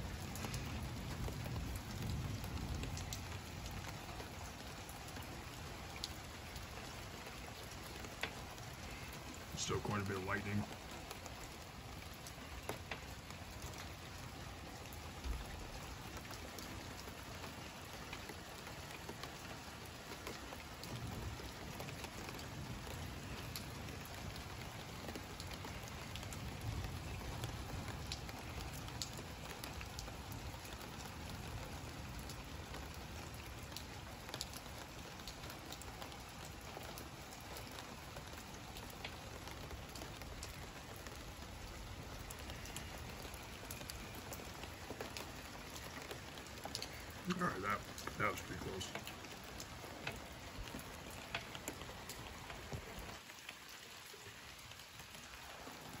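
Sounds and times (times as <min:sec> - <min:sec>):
steady rain falling: 0:00.0 - 0:56.0
close drips ticking: 0:00.2 - 0:53.8.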